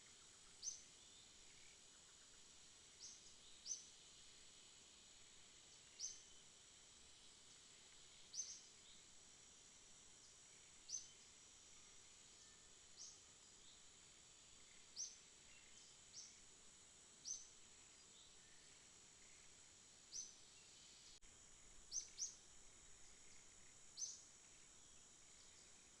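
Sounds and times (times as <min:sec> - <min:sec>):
short sharp insect chirp: 0:00.0 - 0:09.6, 0:10.2 - 0:16.5, 0:17.2 - 0:26.0
faint high-pitched insect hum: 0:00.0 - 0:26.0.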